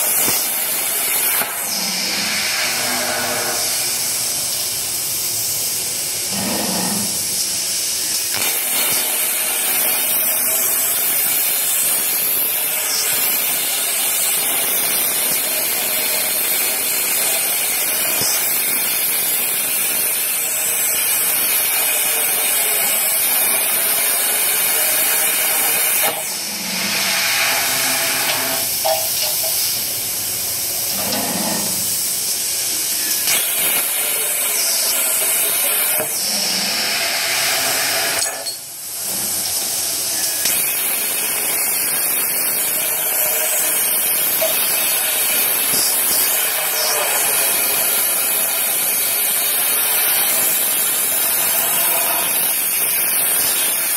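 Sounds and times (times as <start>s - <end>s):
plasma torch hissing: 0.0s - 53.9s.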